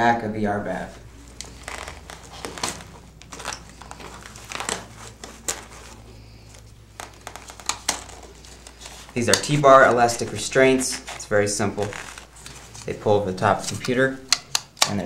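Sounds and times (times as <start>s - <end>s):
fabric rustling and crinkling: 0.9s - 14.1s.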